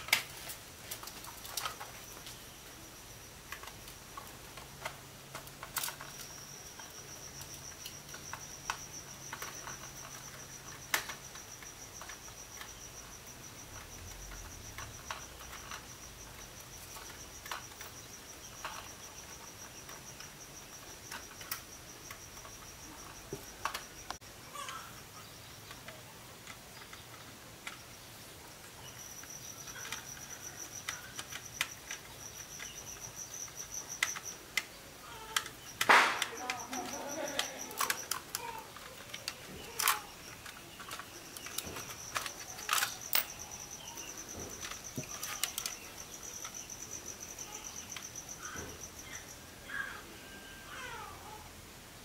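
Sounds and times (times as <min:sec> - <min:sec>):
high-pitched insect trill: 0:00.0 - 0:24.9, 0:28.7 - 0:51.5.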